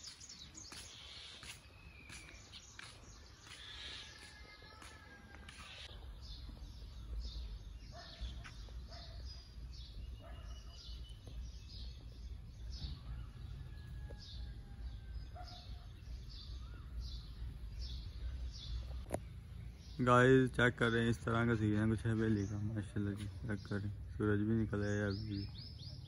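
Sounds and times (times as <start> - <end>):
bird high chirp: 0.0 - 26.0.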